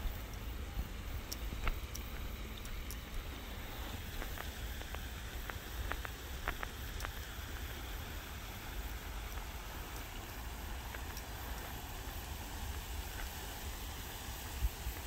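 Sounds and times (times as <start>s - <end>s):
faint hiss: 0.0s - 15.0s
light clicks and crackles: 0.0s - 15.0s
steady low rumble: 0.0s - 15.0s.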